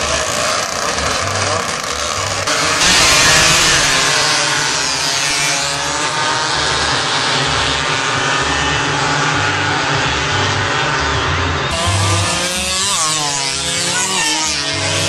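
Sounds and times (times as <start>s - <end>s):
motorcycle engines revving hard: 0.0s - 15.0s.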